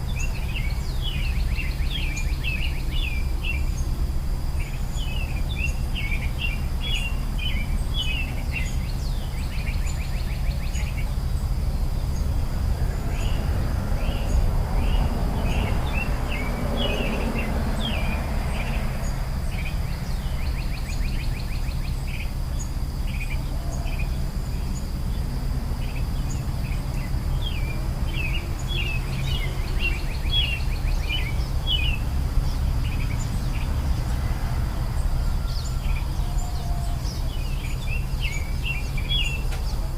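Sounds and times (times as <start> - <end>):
high insect drone: 0.0 - 39.9
small birds chirping: 0.0 - 39.9
steady low rumble: 0.0 - 39.9.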